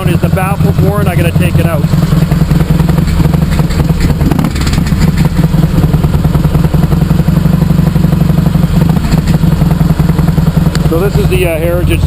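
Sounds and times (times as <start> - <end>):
motorcycle engine rumbling: 0.0 - 12.0
tinny exhaust rattle: 0.0 - 12.0.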